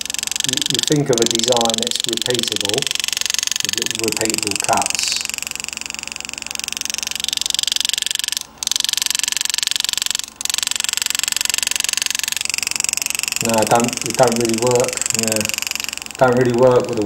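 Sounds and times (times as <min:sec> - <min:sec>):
pneumatic engraver buzzing: 0:00.0 - 0:17.0.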